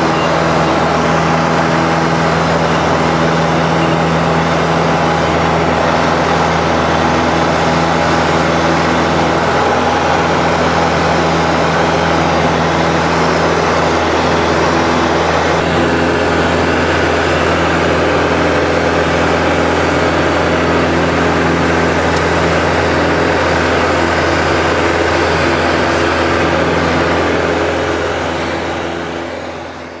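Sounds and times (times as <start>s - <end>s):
aircraft engine drone: 0.0s - 30.0s.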